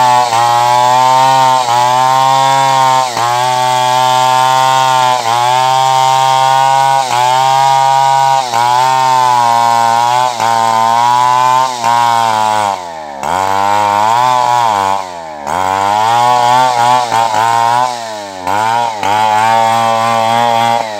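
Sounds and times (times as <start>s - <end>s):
chainsaw cutting logs: 0.0s - 20.9s.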